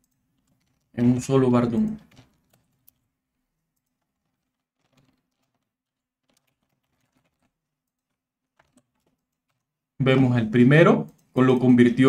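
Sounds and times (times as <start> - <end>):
faint keyboard keystrokes: 0.0 - 11.8.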